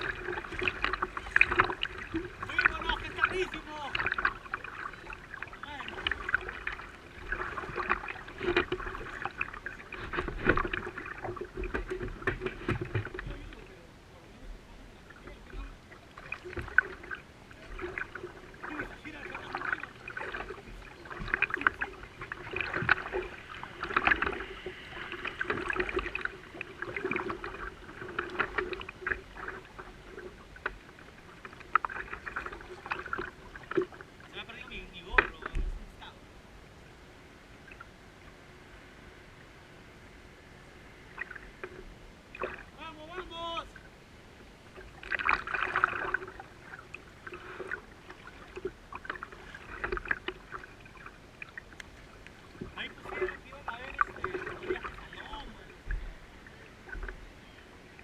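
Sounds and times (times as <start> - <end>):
water sloshing from paddle strokes: 0.0 - 36.2, 40.5 - 58.0.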